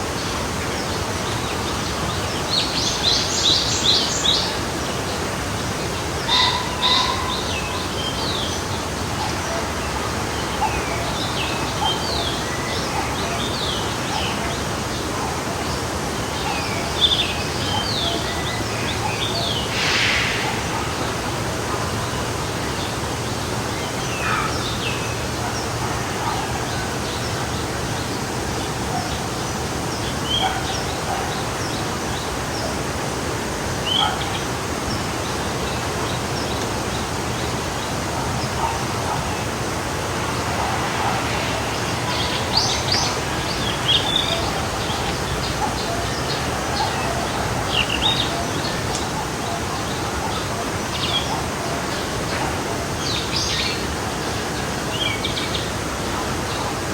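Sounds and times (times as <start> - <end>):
stream flowing: 0.0 - 56.9.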